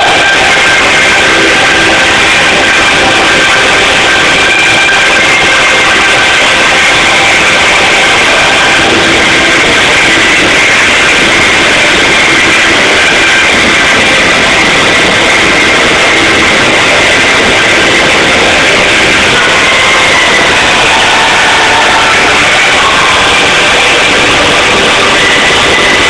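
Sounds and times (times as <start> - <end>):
distorted live concert music: 0.0 - 26.0.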